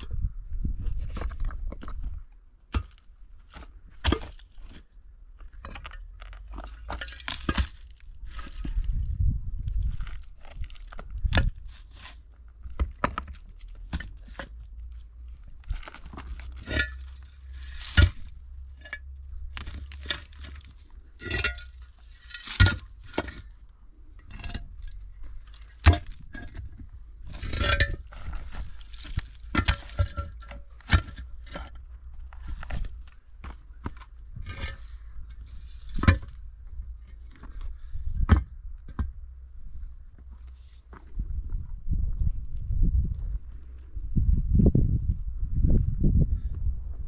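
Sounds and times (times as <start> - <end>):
concrete blocks knocking and scraping: 0.0 - 41.2.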